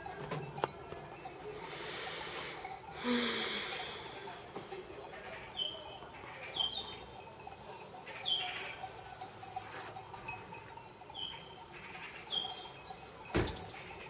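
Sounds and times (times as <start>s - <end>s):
goat bells clinking: 0.0s - 14.0s.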